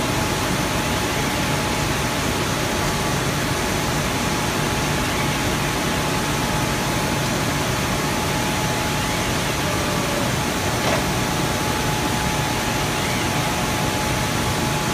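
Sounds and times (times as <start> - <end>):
industrial machinery hum and drone: 0.0 - 14.9.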